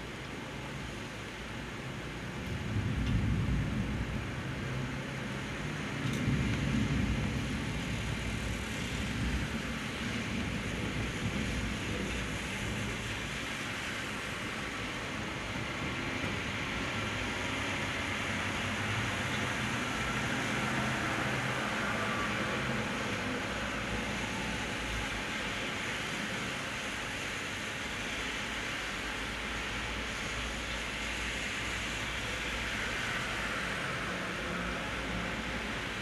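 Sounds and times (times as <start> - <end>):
heavy rain on road: 0.0 - 36.0.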